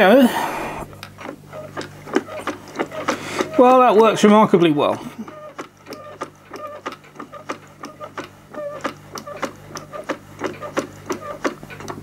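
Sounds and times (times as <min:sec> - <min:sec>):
water pump model clicking: 0:00.9 - 0:12.0.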